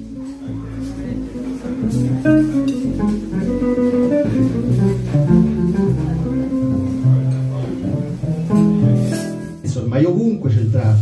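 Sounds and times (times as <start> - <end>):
plucked double bass: 0.0 - 9.8
swing jazz archtop guitar: 0.0 - 11.0.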